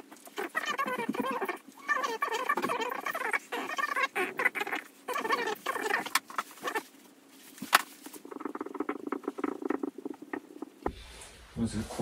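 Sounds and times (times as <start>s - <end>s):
marker squeaking on whiteboard: 0.0s - 7.0s, 7.6s - 10.8s.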